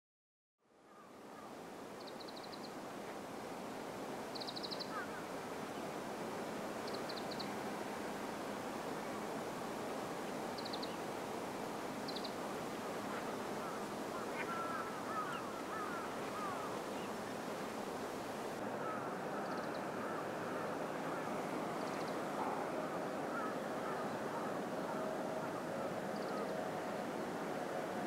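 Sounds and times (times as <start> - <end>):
wind and water hiss: 0.6 - 28.0.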